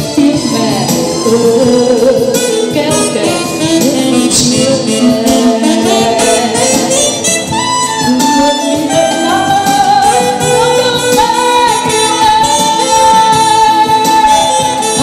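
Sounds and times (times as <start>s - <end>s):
instrumental accompaniment: 0.0s - 15.0s
woman singing with vibrato: 0.0s - 15.0s.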